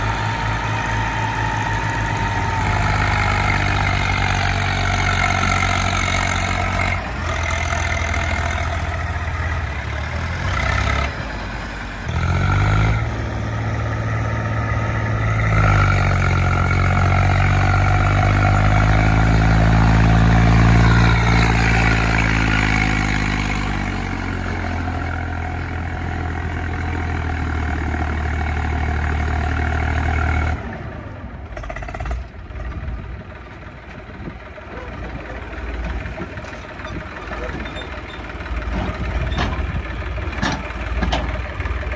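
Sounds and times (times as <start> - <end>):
diesel tractor engine revving: 0.0 - 41.9.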